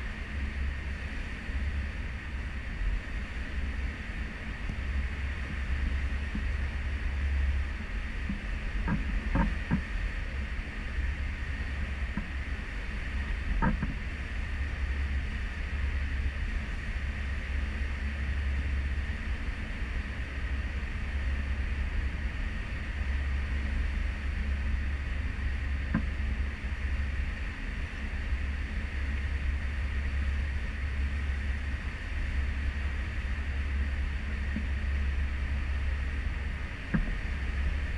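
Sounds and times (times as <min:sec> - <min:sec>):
wind rumble on microphone: 0:00.0 - 0:37.9.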